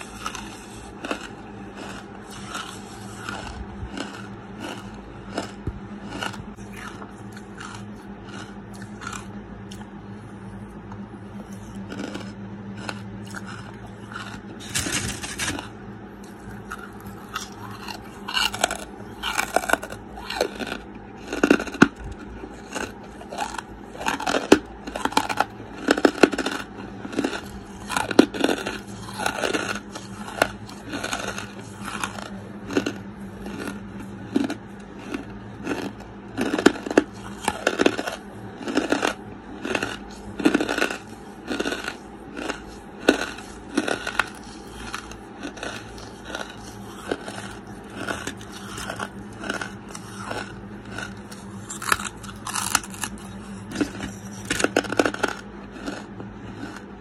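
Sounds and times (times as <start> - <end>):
chewing charcoal crunches: 0.0 - 57.0.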